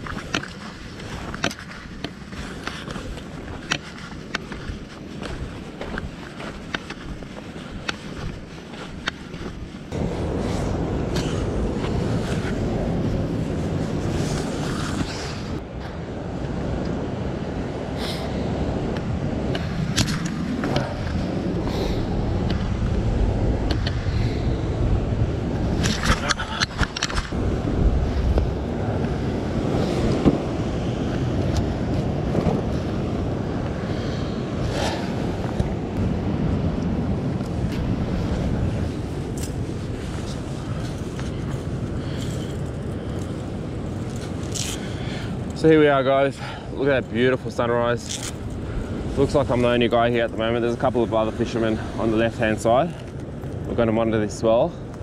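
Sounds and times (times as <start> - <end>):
ocean surf breaking on rocks: 0.0 - 55.0
wind buffeting microphone: 0.0 - 55.0.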